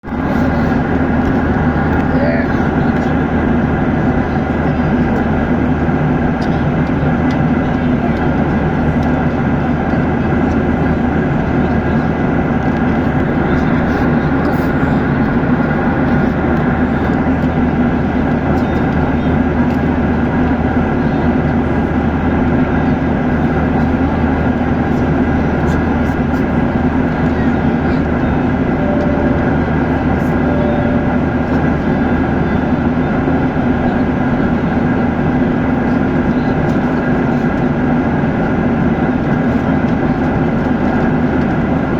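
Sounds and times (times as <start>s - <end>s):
airliner cabin engine drone: 0.0s - 41.9s
constant low hum: 0.0s - 41.9s.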